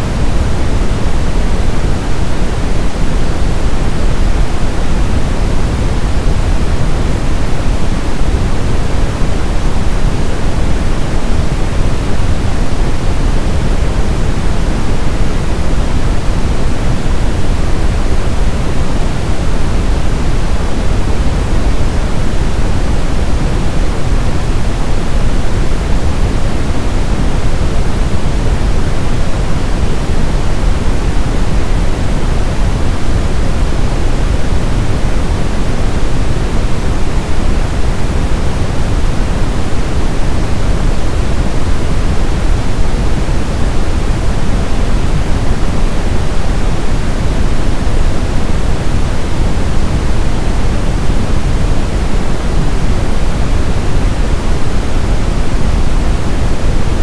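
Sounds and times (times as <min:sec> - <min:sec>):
brown noise rumble: 0:00.0 - 0:57.0.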